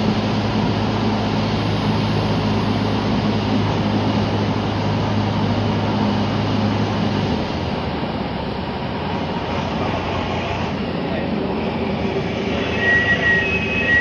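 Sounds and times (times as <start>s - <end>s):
propeller plane engine drone: 0.0s - 14.0s.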